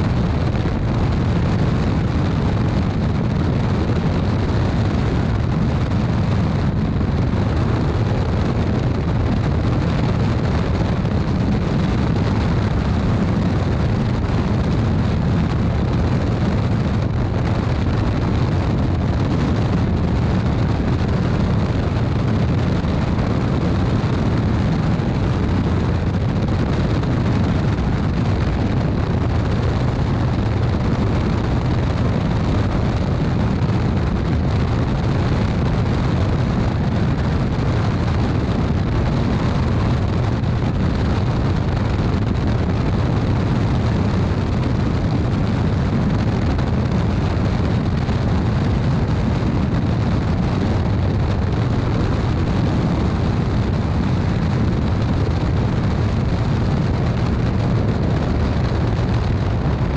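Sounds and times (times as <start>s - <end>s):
airflow rushing over microphone: 0.0s - 59.9s.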